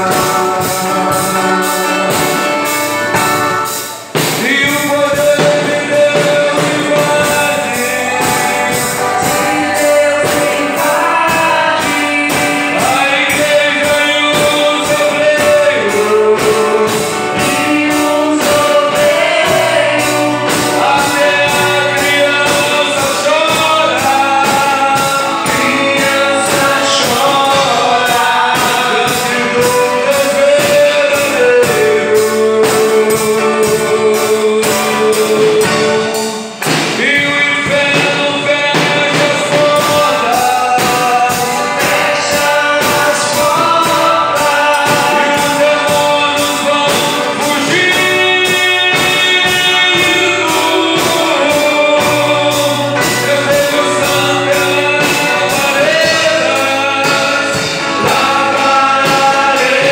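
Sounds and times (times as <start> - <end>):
amplified accompaniment with beat: 0.0 - 59.9
man singing into a microphone: 0.0 - 59.9.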